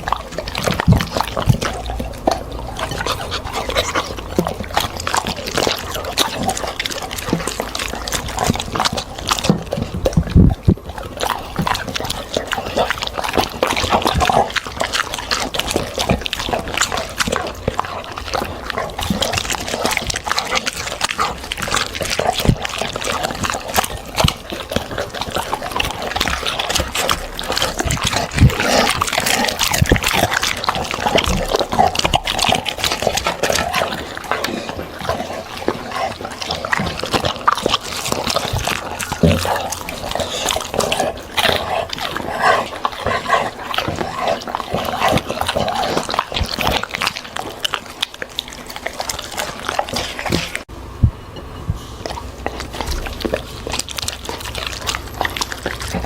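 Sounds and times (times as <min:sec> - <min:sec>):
dog chewing with crunches: 0:00.0 - 0:56.0.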